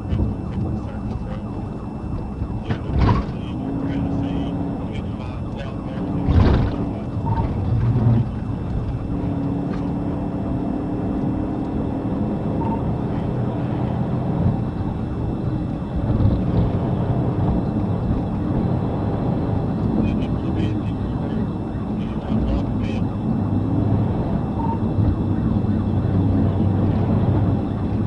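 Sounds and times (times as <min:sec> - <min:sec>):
car engine and road noise drone: 0:00.0 - 0:28.0.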